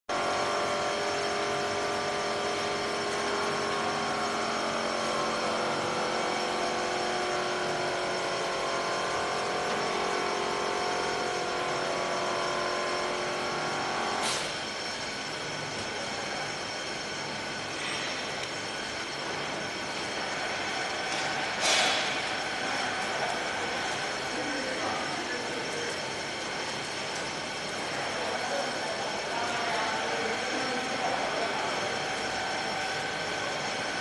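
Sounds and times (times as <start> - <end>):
machine hum: 0.1 - 34.0
motor whine: 0.1 - 34.0.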